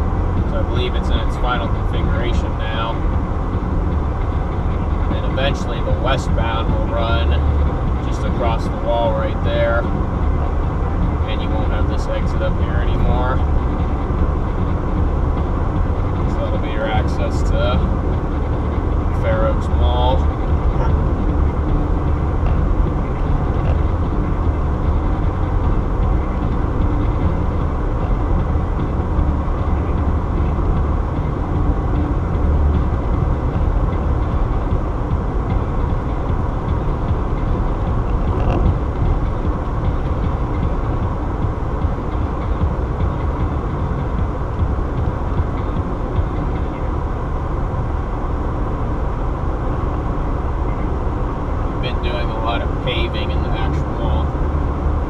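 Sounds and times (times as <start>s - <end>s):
car engine hum: 0.0s - 55.0s
tyres rumbling on pavement: 0.0s - 55.0s.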